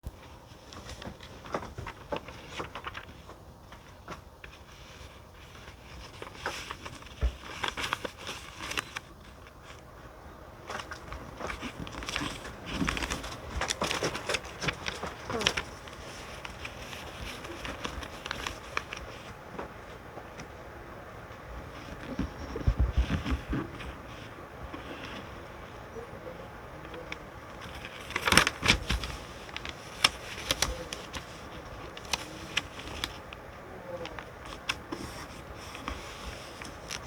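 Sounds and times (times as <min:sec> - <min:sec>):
paper crinkling and tapping: 0:00.0 - 0:20.7, 0:21.3 - 0:26.0, 0:26.7 - 0:37.0
steady low hiss: 0:00.0 - 0:37.0.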